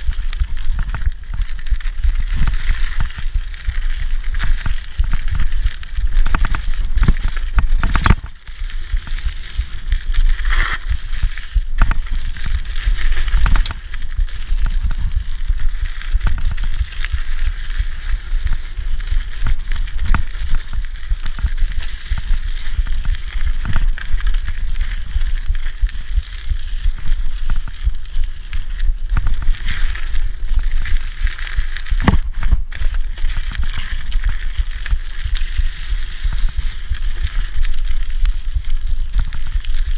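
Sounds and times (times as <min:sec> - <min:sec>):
bike knocking and rattling: 0:00.0 - 0:39.9
bike tyres crunching over dirt: 0:00.0 - 0:39.9
wind rumble on microphone: 0:00.0 - 0:39.9.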